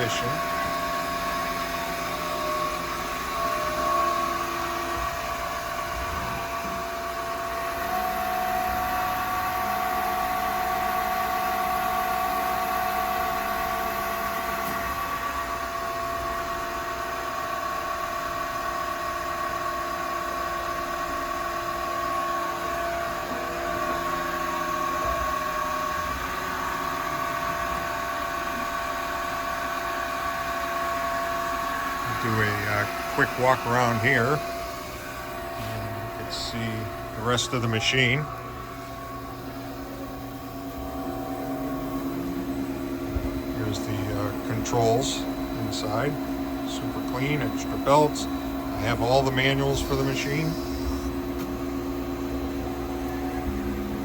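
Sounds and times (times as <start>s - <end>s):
grinder machine hum: 0.0s - 54.0s
higher machine whine: 0.0s - 54.0s.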